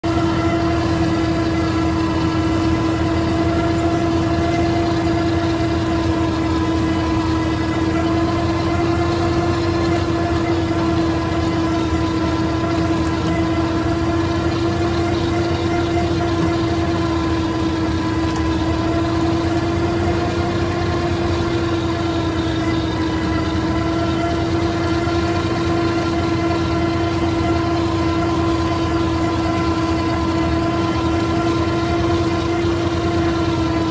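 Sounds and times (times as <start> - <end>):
high whining tone: 0.0 - 33.9
tractor diesel engine running: 0.0 - 33.9.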